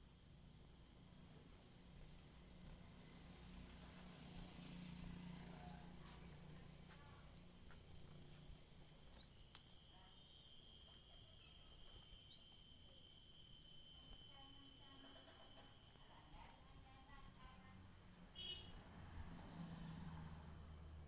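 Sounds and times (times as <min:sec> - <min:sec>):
higher insect drone: 0:00.0 - 0:21.0
insects droning: 0:00.0 - 0:21.0.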